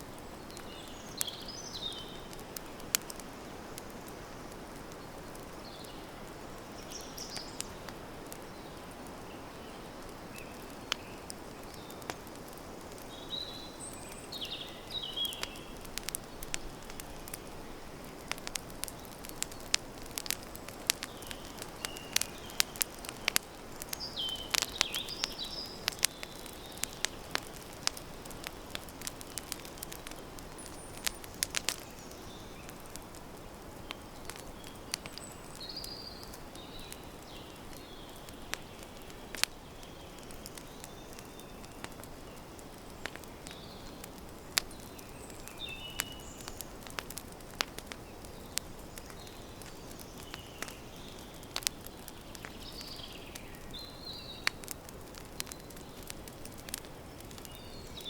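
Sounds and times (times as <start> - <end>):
campfire crackling: 0.0 - 58.0
birds chirping: 4.0 - 58.0.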